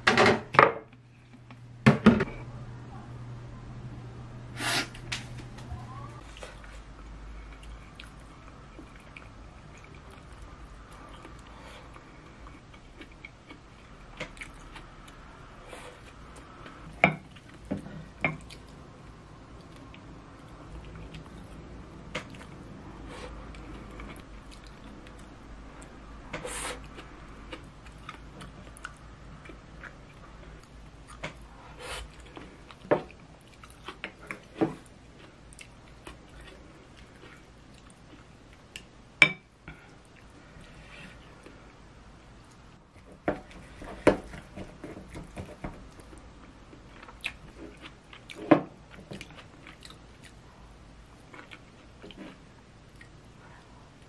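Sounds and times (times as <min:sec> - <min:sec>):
quiet chewing: 0:06.2 - 0:38.9, 0:42.4 - 0:54.0.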